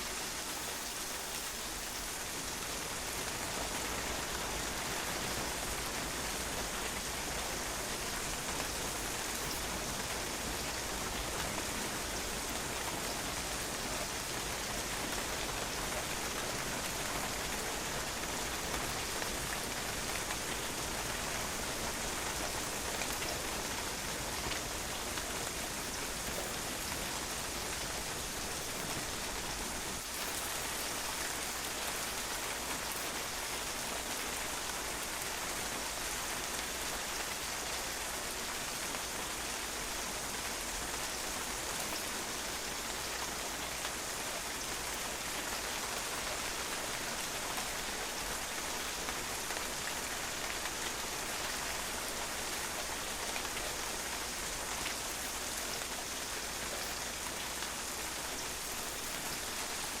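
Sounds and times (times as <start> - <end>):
steady rain falling: 0.0 - 60.0
raindrops pattering on patio: 0.2 - 60.0.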